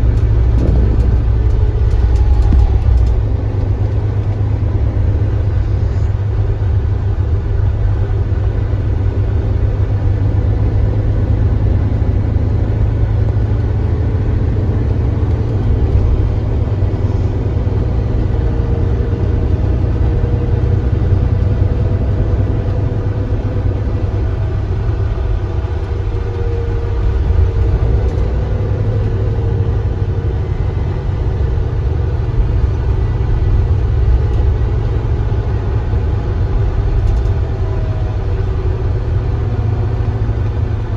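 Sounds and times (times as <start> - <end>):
coach engine droning: 0.0 - 40.9.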